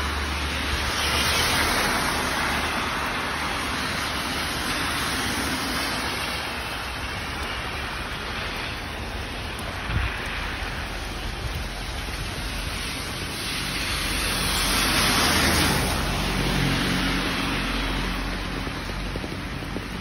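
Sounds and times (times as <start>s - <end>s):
heavy rain pouring on street: 0.0s - 20.0s
vehicle passing on wet road: 0.0s - 20.0s.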